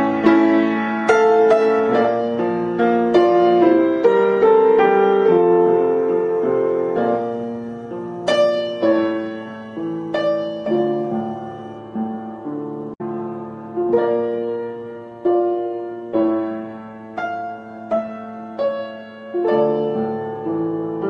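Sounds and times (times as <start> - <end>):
gentle piano notes and chords: 0.0 - 21.0.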